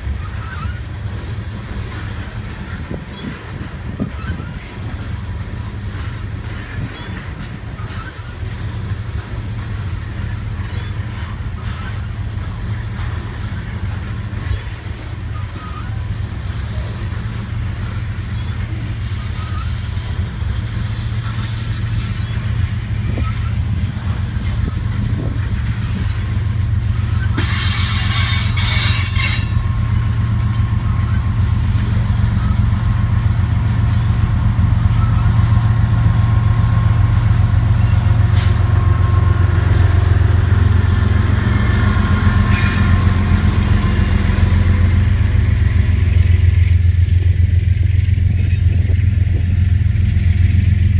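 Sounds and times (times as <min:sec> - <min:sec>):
diesel locomotive engine hum: 0:00.0 - 0:50.9
freight train rumbling: 0:00.0 - 0:50.9.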